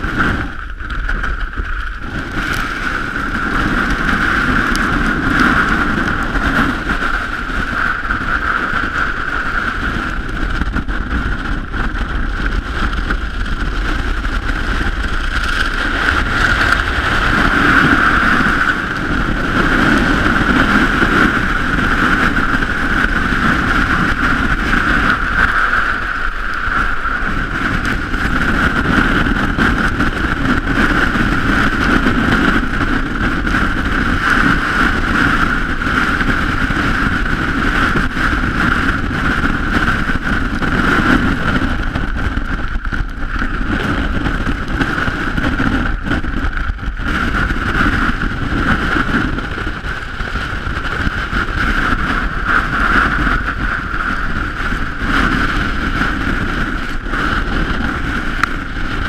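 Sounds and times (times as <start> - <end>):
wind blasting microphone: 0.0 - 59.0.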